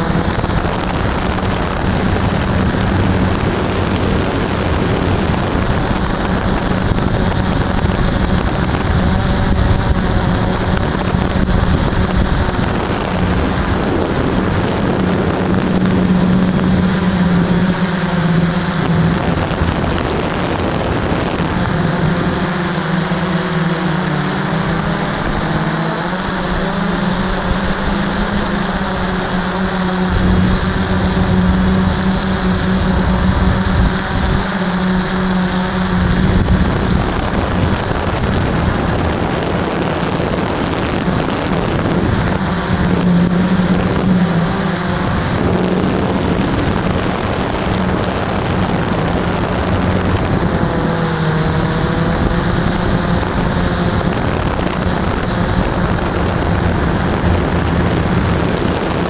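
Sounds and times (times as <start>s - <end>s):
model aircraft motor droning: 0.0s - 59.0s
rushing wind: 0.0s - 59.0s.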